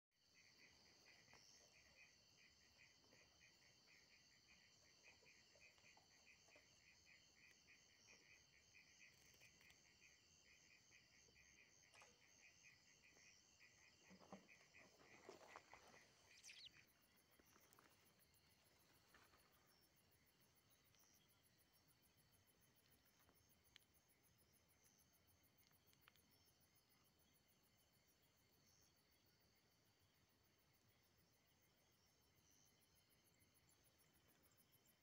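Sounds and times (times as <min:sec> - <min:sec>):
insects chirping: 0:00.2 - 0:35.0.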